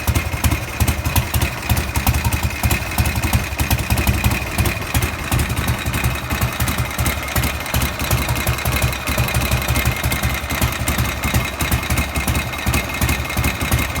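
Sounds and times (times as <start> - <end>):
abnormal engine rocker noise: 0.0 - 14.0
motorcycle engine idling: 0.0 - 14.0.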